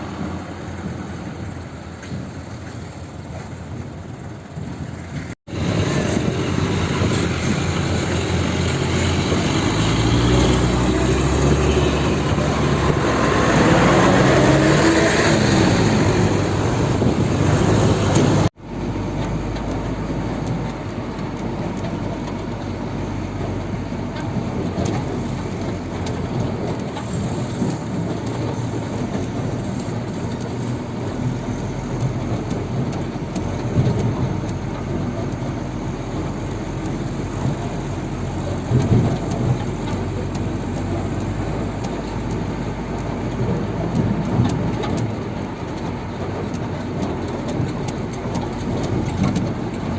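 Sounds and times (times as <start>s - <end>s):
rumbling engine noise: 0.0s - 49.9s
diesel engine revving: 4.0s - 49.9s.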